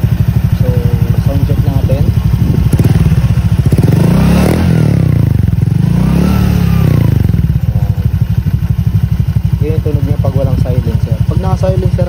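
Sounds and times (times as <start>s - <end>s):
scooter engine revving and idling: 0.0s - 12.0s.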